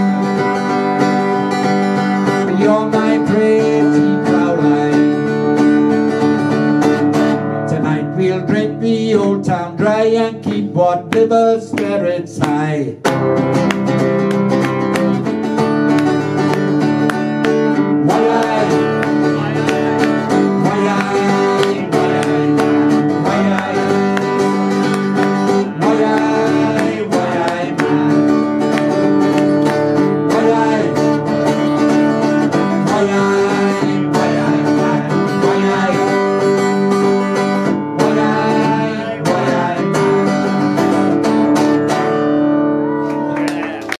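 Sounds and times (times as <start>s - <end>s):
acoustic guitars playing folk: 0.0s - 43.9s.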